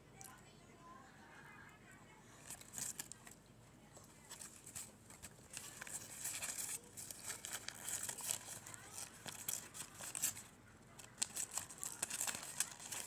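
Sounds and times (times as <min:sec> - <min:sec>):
crunching and chewing fries: 0:02.3 - 0:13.0.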